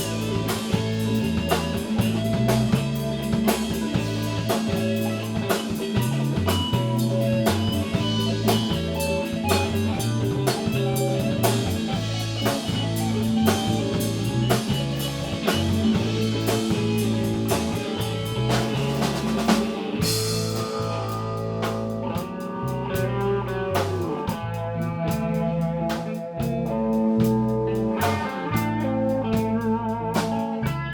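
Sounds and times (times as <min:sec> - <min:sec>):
band playing instrumental: 0:00.0 - 0:30.9.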